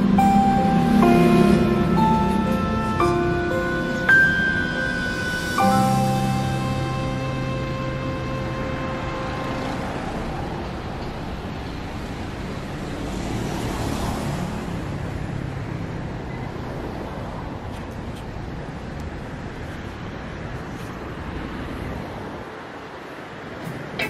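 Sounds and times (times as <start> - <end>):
passing cars: 0.0 - 24.0.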